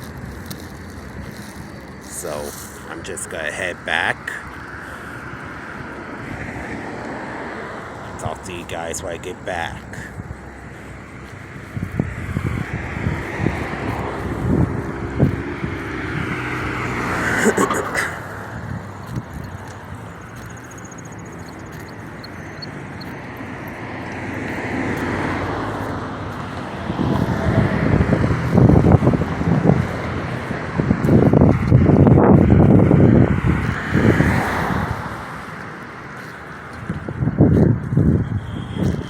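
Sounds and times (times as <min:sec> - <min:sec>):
road traffic: 0:00.0 - 0:39.0
vehicles passing: 0:00.0 - 0:39.0
wind buffeting microphone: 0:00.0 - 0:39.0.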